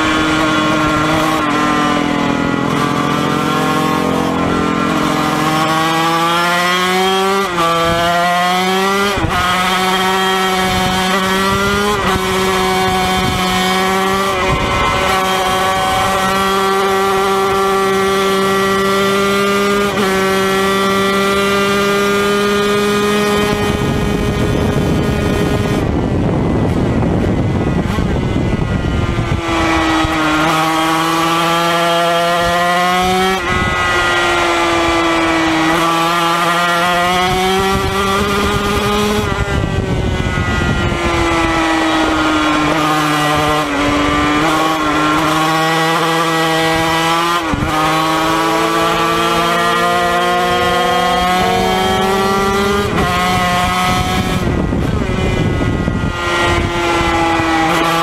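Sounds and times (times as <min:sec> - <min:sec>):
racing engine at full throttle: 0:00.0 - 0:58.0
wind rush: 0:00.0 - 0:58.0.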